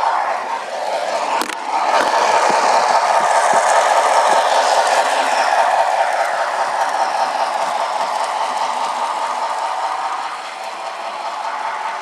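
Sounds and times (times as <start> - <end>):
model train rattling on track: 0.0 - 12.0.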